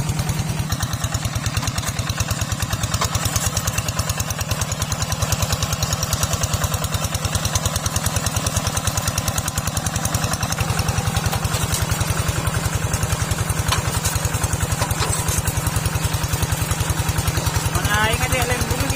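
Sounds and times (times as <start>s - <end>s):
tractor engine chugging: 0.0s - 18.9s.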